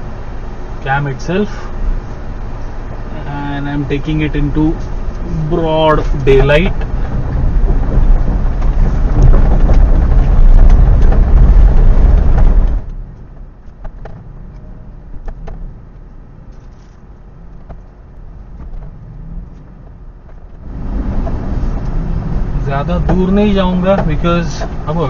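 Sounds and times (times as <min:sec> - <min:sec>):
car rumbling over gravel: 0:00.0 - 0:25.0.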